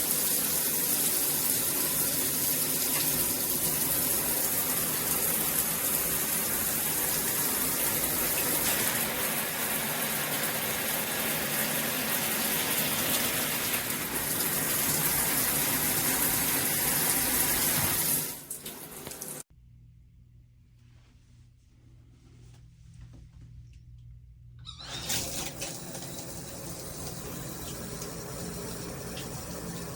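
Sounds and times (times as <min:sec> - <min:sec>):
shower head spraying water: 0:00.0 - 0:19.4, 0:25.0 - 0:29.9.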